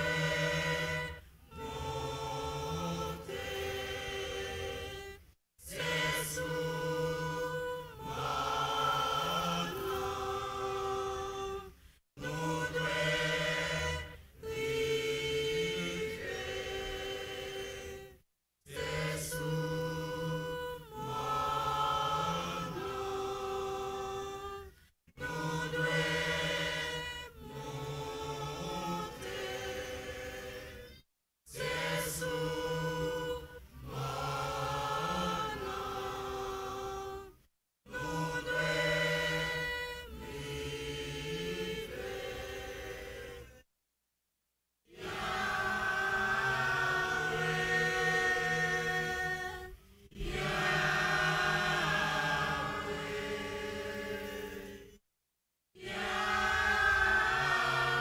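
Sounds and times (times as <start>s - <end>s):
choir singing unaccompanied: 0.0s - 43.6s, 44.9s - 55.0s, 55.8s - 58.0s.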